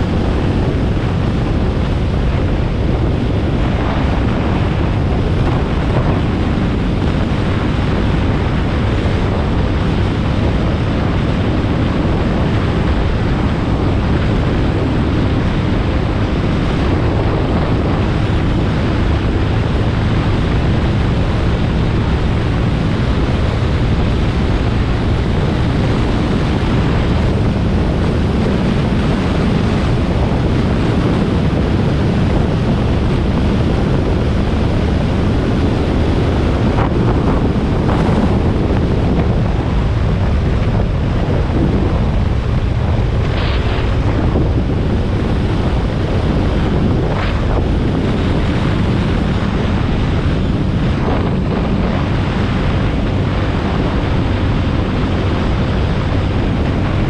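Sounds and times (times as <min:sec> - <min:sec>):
motorcycle running and tyre noise: 0:00.0 - 0:57.0
wind rushing over microphone: 0:00.0 - 0:57.0.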